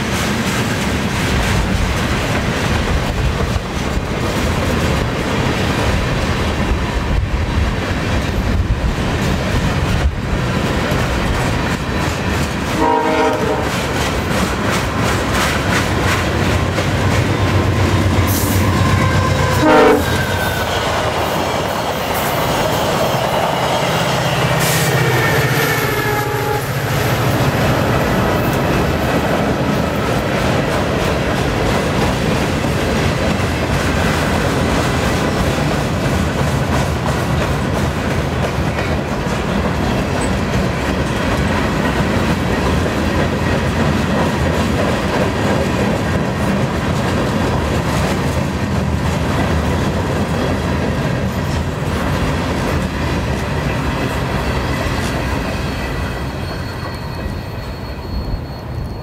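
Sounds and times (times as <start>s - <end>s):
diesel locomotive pulling away: 0.0s - 59.0s
freight train rumbling past: 0.0s - 59.0s.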